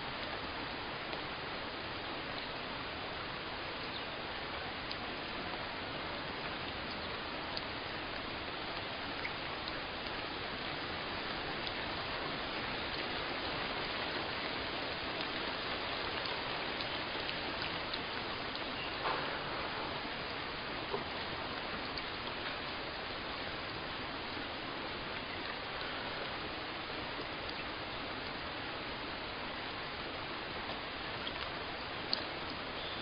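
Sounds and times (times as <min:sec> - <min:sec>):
raindrops ticking on a surface: 0:00.0 - 0:33.0
steady rainfall: 0:00.0 - 0:33.0.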